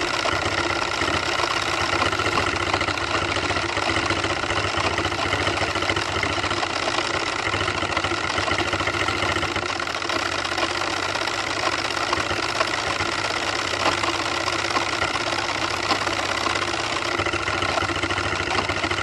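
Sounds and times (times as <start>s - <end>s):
model steam engine running: 0.0s - 19.0s.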